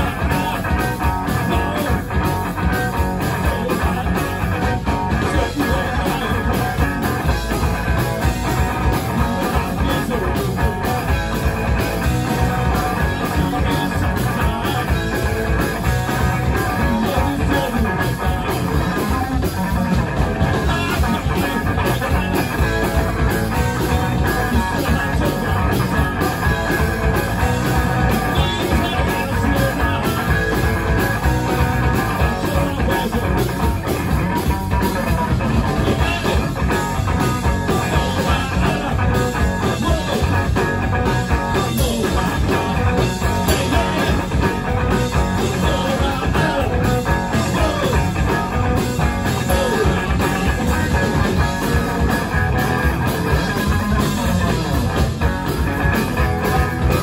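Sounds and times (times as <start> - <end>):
electric guitar: 0.0 - 57.0
live rock music: 0.0 - 57.0.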